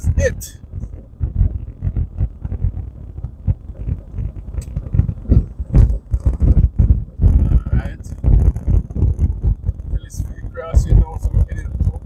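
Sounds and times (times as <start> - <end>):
low thumps: 0.0 - 12.0
vehicle road noise rumble: 0.0 - 12.0.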